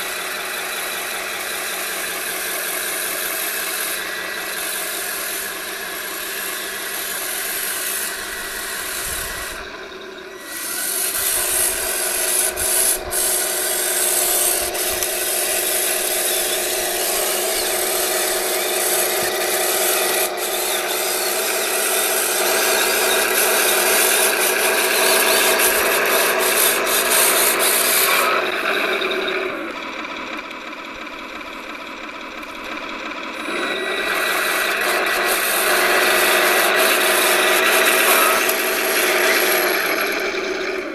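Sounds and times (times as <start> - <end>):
mechanical whine: 0.0 - 40.9
model tank gears and tracks grinding: 0.0 - 40.9.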